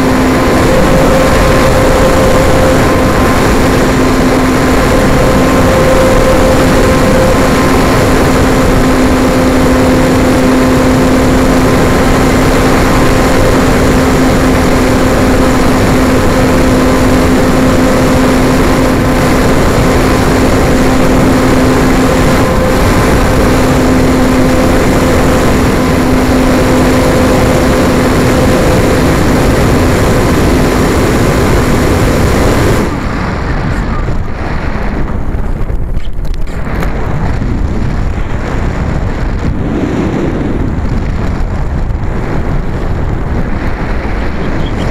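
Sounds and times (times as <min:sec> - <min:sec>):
model airplane motor and propeller: 0:00.0 - 0:44.9
wind rushing past airframe: 0:00.0 - 0:44.9.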